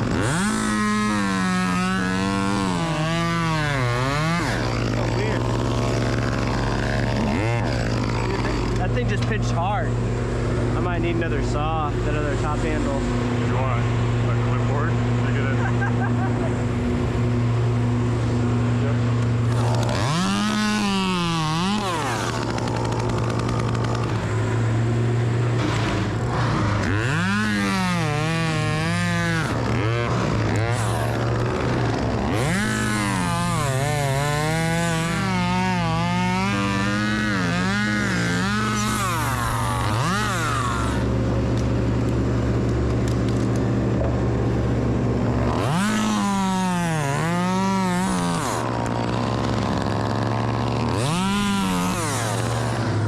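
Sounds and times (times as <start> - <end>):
chainsaw cutting wood: 0.0 - 53.0
low engine drone: 0.0 - 53.0.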